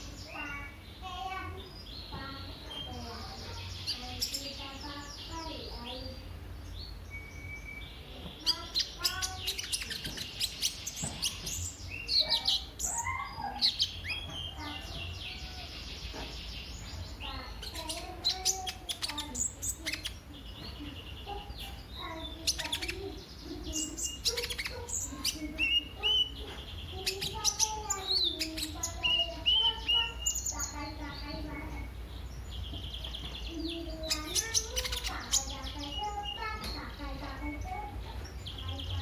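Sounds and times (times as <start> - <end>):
sunbird singing: 0.0 - 39.0.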